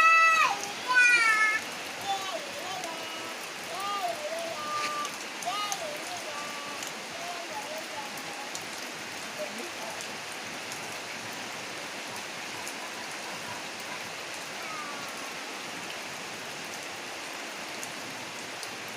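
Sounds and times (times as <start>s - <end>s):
heavy rain splashing: 0.0s - 18.9s.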